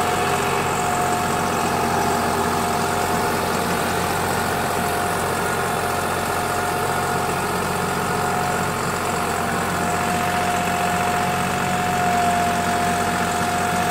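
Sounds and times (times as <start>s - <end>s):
steady whine: 0.0s - 11.3s
tractor engine running under load: 0.0s - 13.9s.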